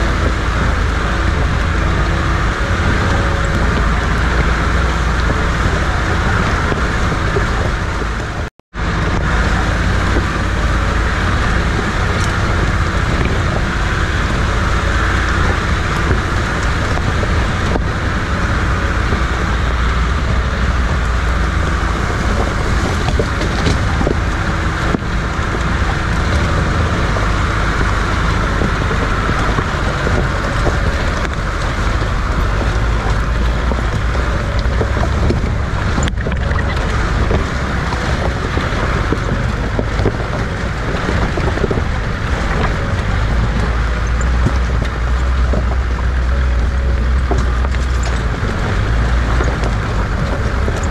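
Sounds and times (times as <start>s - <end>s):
jeep engine and tyres: 0.0s - 50.9s
wind rumble on microphone: 0.0s - 50.9s.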